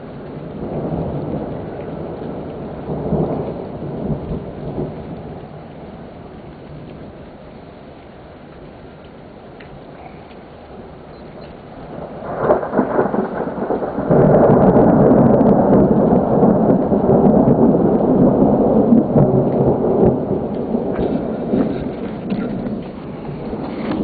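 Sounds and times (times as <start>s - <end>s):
thunder rolling: 0.0s - 7.4s, 9.8s - 24.0s
light rain pattering: 0.0s - 24.0s.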